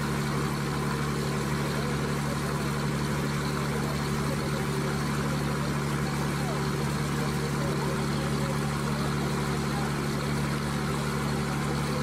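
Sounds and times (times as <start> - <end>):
boat engine drone: 0.0 - 12.0.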